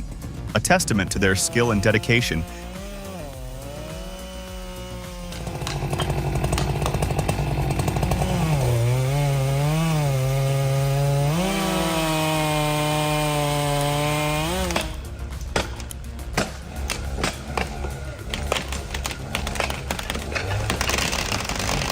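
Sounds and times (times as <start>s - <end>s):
chainsaw cutting at full throttle: 0.0s - 21.9s.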